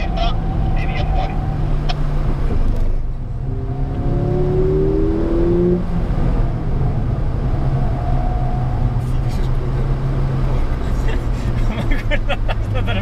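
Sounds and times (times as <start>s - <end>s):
car engine drone in cabin: 0.0s - 13.0s.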